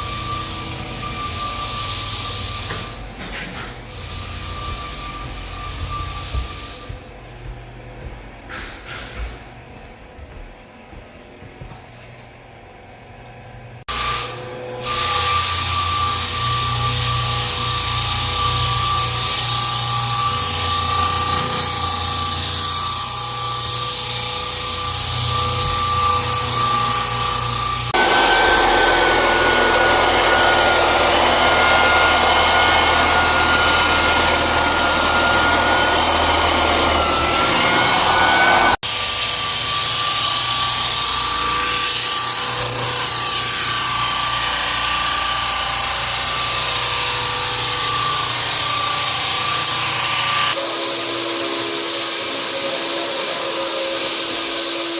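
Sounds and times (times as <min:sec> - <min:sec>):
floor sanding machine grinding: 0:00.0 - 0:10.3, 0:13.9 - 0:54.9.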